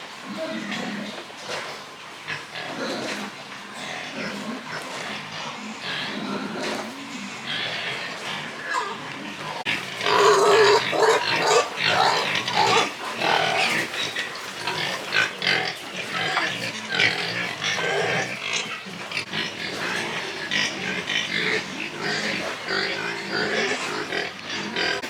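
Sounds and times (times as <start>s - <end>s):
pigs calling: 0.2s - 25.0s.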